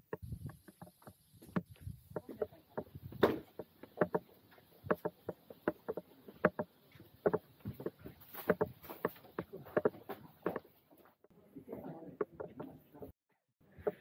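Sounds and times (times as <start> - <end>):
footsteps walking: 0.1 - 13.1.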